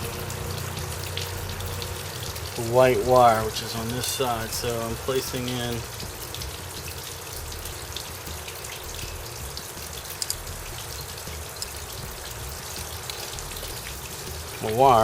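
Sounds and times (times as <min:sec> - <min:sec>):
running and splashing water: 0:00.0 - 0:15.0.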